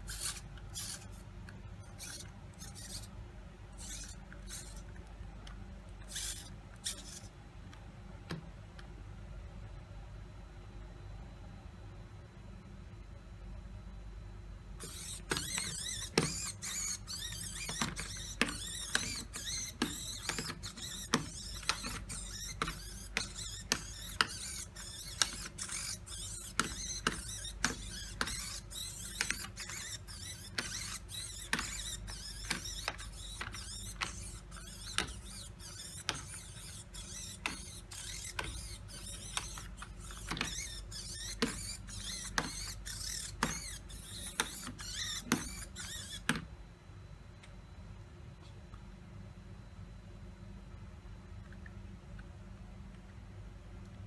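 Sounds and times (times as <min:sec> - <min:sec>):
mechanism whirring: 0:00.0 - 0:54.0.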